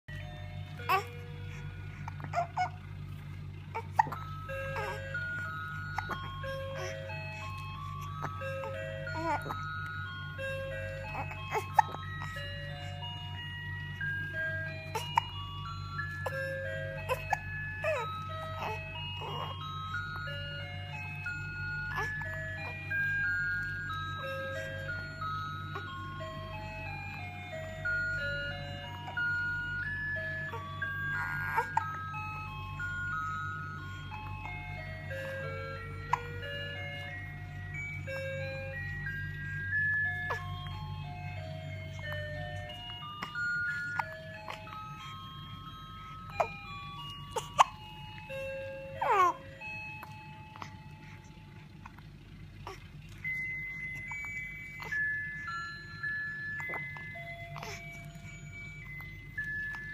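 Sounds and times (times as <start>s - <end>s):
low steady hum: 0.1s - 59.9s
music box chiming tune: 0.1s - 59.9s.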